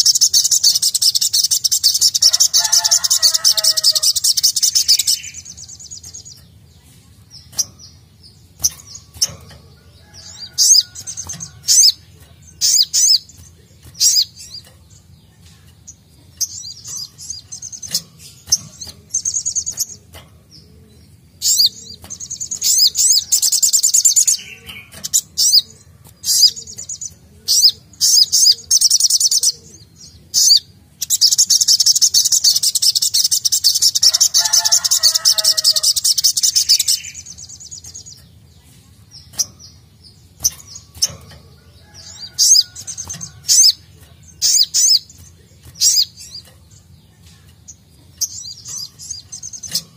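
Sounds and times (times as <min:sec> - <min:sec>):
sunbird singing: 0:00.0 - 0:49.9.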